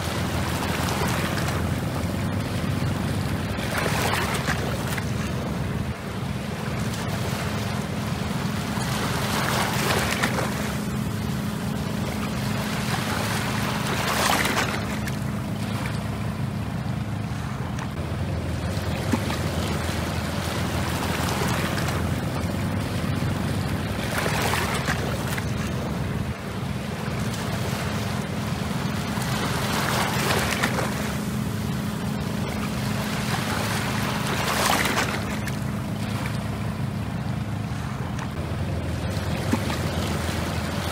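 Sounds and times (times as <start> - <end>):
steady low rumble: 0.0 - 40.9
waves washing onto shore: 0.0 - 40.9.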